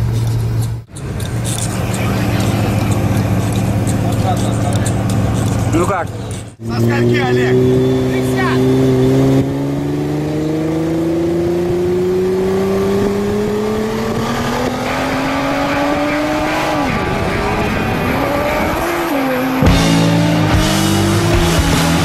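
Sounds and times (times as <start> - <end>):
car engine accelerating hard: 0.9 - 22.0.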